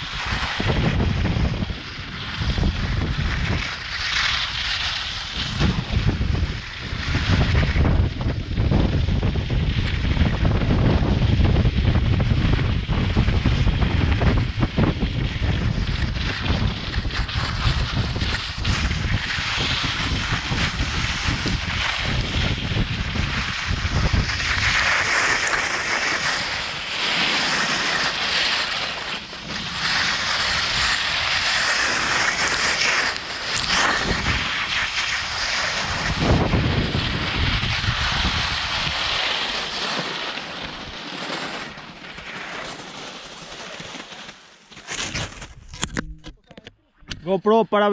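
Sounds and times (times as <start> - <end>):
wind buffeting microphone: 0.0 - 40.9
skis hissing over snow: 0.0 - 45.6.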